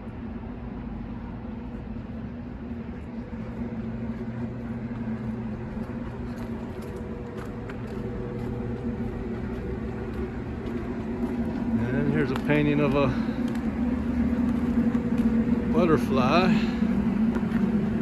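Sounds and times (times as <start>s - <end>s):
low mechanical hum: 0.0s - 18.0s
street noise: 0.0s - 18.0s.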